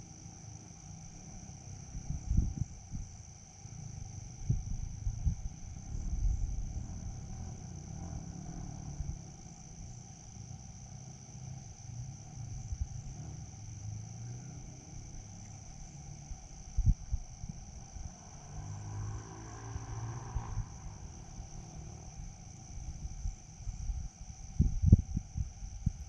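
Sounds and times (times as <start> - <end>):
insects chirring: 0.0 - 26.0
low outdoor rumble: 0.0 - 26.0.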